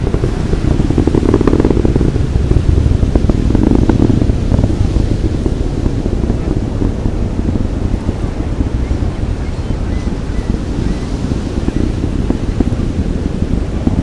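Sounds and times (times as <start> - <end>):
crackling rocket roar: 0.0 - 14.0
distant rocket engine rumble: 0.0 - 14.0.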